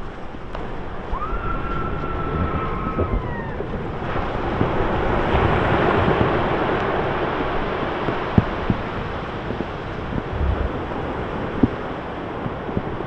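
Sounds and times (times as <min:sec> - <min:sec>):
rushing water: 0:00.0 - 0:13.0
rushing wind: 0:00.0 - 0:13.0
wind buffeting microphone: 0:00.0 - 0:13.0.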